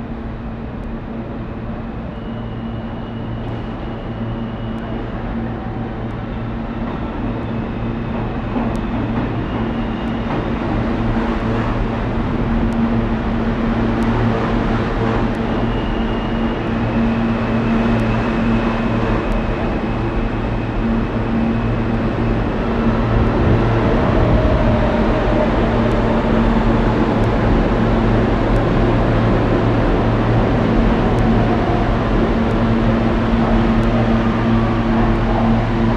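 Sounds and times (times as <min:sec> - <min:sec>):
subway train wheels rumbling on rail: 0:00.0 - 0:35.9
high motor whine: 0:02.0 - 0:35.9.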